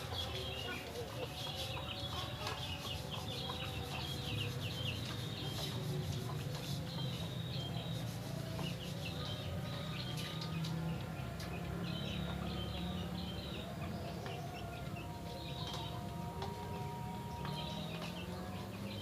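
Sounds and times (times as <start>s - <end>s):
chickens clucking: 0.0s - 19.0s
small birds chirping: 0.0s - 19.0s.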